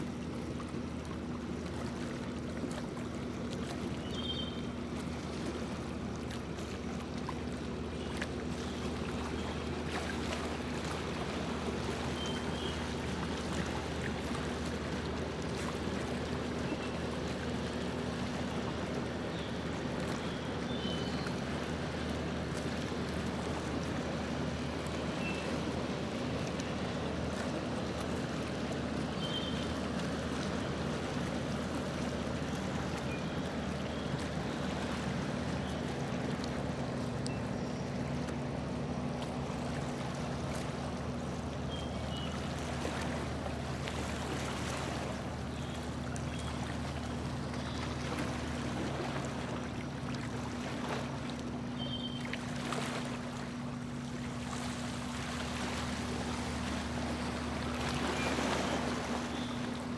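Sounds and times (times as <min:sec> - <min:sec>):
boat motor hum: 0:00.0 - 0:59.9
water washing along hull: 0:00.0 - 0:59.9.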